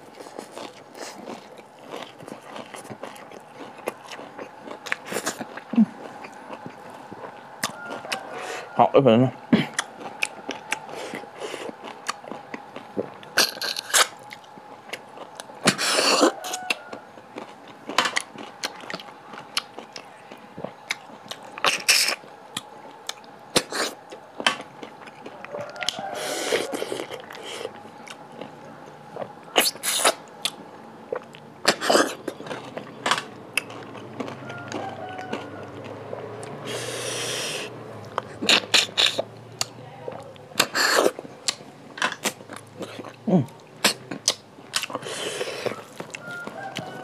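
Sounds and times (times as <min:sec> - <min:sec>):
chewing: 0:00.0 - 0:08.7, 0:09.5 - 0:47.0
slurping snails: 0:00.0 - 0:39.7, 0:40.6 - 0:47.0
faint steady hum: 0:00.0 - 0:47.0.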